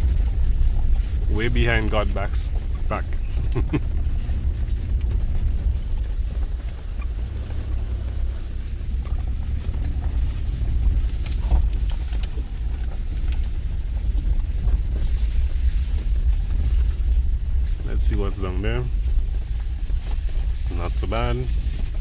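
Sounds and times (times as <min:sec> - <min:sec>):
car engine and tyre rumble: 0:00.0 - 0:22.0
light knocks and rattles: 0:00.0 - 0:22.0.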